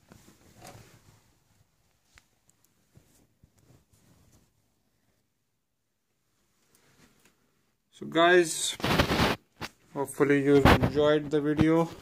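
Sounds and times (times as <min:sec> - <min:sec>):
faint soft rustle: 0:00.0 - 0:07.8, 0:08.5 - 0:12.0.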